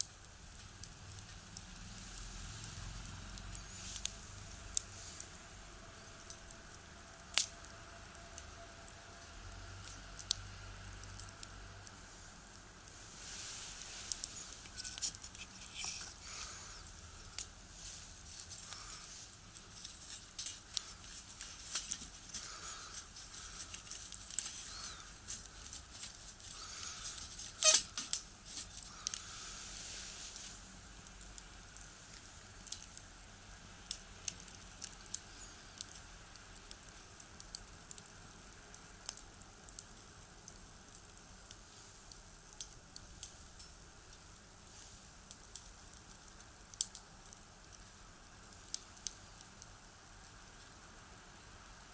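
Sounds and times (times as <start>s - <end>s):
soft hiss of fire: 0.0s - 51.9s
wood fire crackling: 0.0s - 51.9s.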